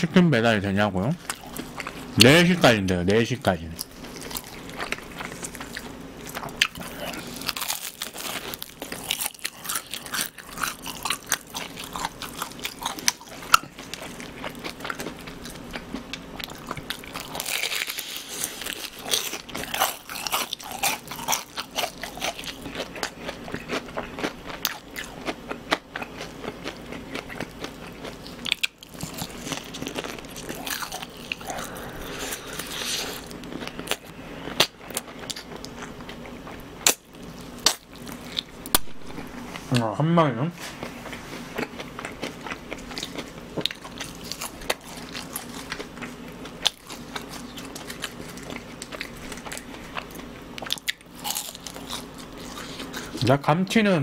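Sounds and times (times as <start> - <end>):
chewing crispy fried chicken: 1.2 - 39.9, 40.6 - 53.3.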